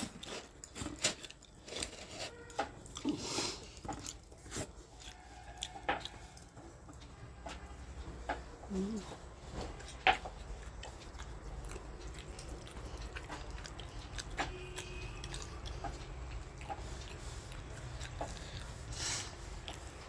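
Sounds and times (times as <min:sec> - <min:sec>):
chewing: 0:00.0 - 0:07.1, 0:08.6 - 0:20.0.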